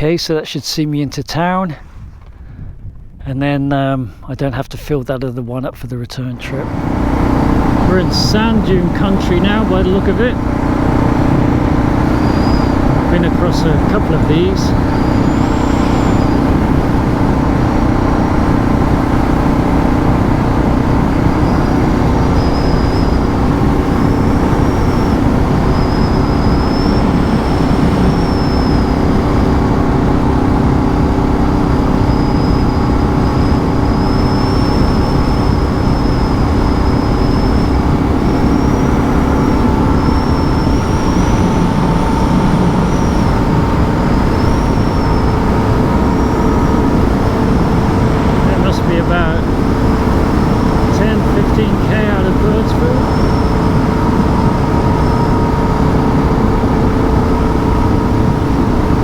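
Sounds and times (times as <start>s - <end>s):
wind and road noise: 0.0s - 59.0s
motorcycle engine cruising: 6.3s - 59.0s.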